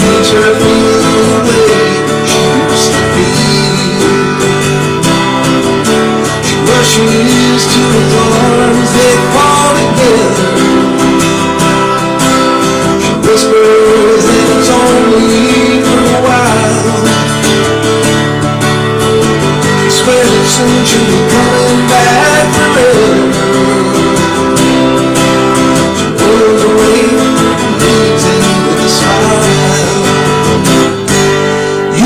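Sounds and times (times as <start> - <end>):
man singing: 0.0 - 18.2, 19.0 - 32.0
acoustic guitar strummed: 0.0 - 32.0.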